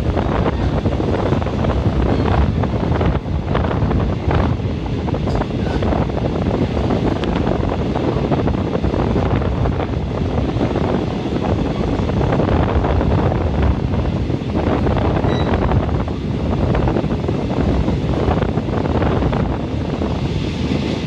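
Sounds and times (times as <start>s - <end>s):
train rumbling on rails: 0.0s - 21.0s
wind on microphone: 0.0s - 21.0s.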